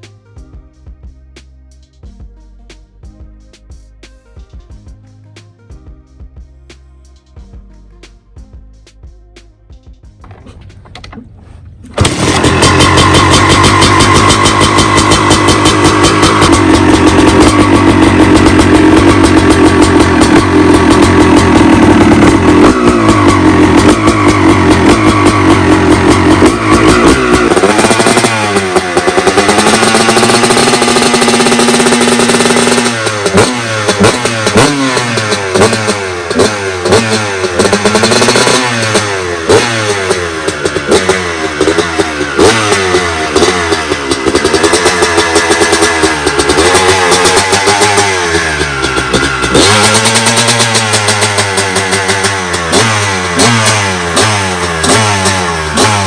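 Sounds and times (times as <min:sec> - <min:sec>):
motorcycle engine revving: 0:09.9 - 0:56.0.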